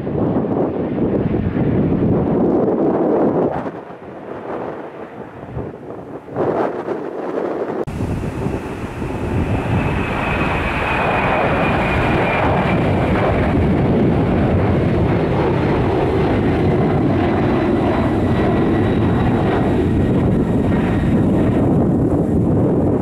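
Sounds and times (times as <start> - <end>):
jet engines roaring with whine: 0.0 - 23.0.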